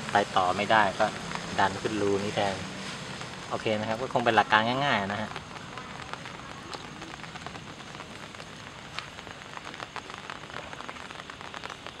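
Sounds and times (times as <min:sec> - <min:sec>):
rain splashing in puddles: 0:00.0 - 0:12.0.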